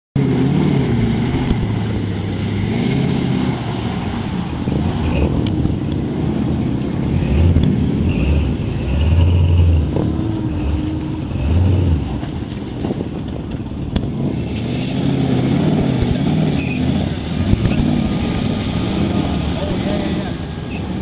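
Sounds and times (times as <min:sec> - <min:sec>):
truck engine revving: 0:00.2 - 0:21.0.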